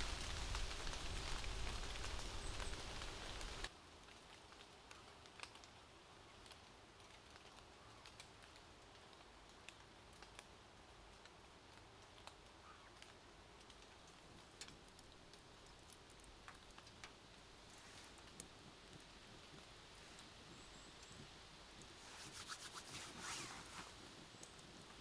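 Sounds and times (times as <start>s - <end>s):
faint irregular ticks: 0.2s - 25.0s.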